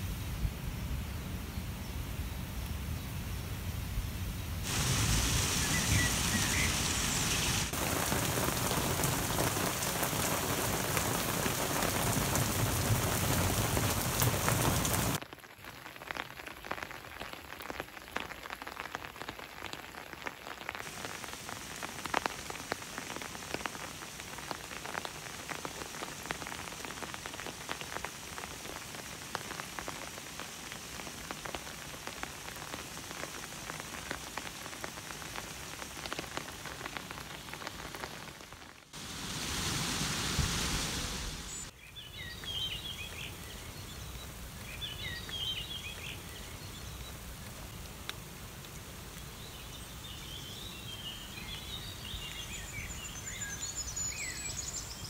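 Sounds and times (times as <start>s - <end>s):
rain drops on water: 2.1s - 55.0s
heavy rain hissing: 3.2s - 55.0s.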